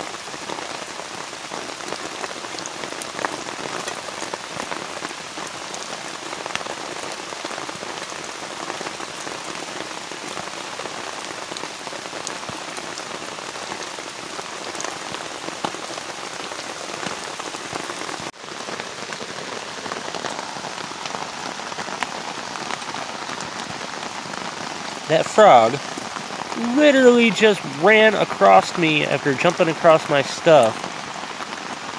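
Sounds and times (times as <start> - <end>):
steady rain falling: 0.0 - 31.9
raindrops ticking: 0.2 - 31.9.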